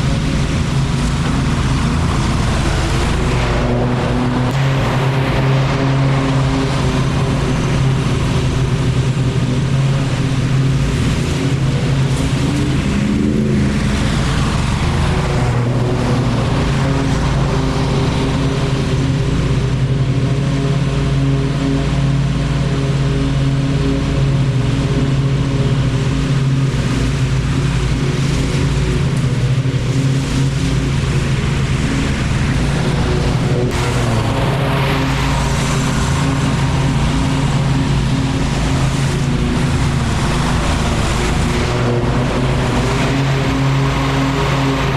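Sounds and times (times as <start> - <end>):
lawn mower engine running: 0.0 - 44.9.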